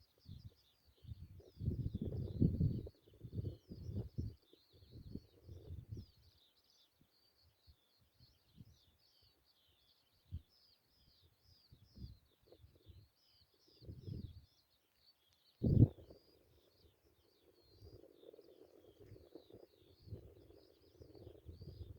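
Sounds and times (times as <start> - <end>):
songbird twittering: 0.0 - 21.9.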